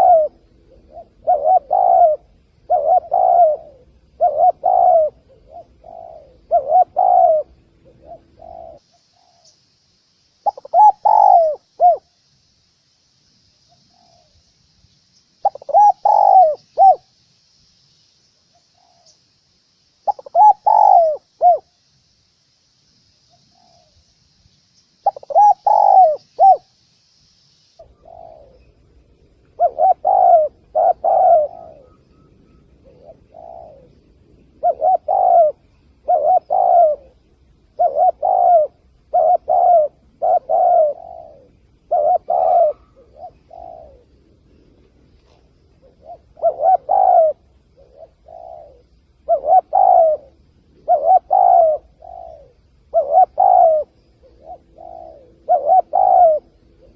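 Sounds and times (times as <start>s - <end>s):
dove cooing: 0.0s - 9.5s, 10.4s - 12.2s, 13.8s - 14.4s, 15.4s - 17.1s, 20.0s - 21.8s, 25.0s - 26.7s, 27.8s - 56.9s.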